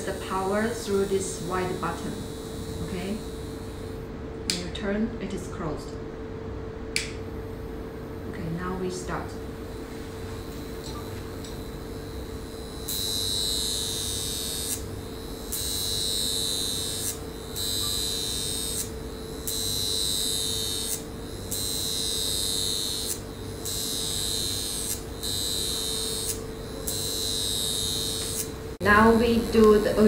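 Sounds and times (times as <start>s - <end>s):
high-frequency wand buzzing: 0.0s - 4.7s, 7.0s - 30.0s.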